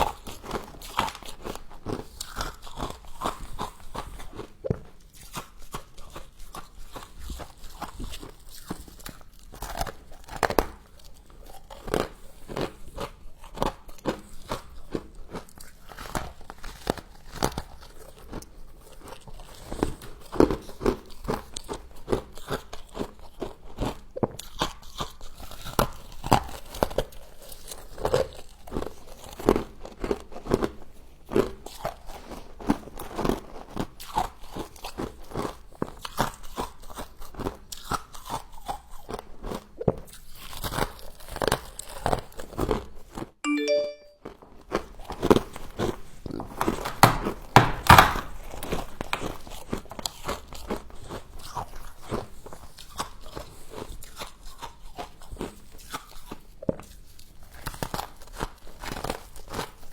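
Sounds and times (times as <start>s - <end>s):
biting and chewing frost: 0.0s - 43.3s, 45.4s - 59.9s.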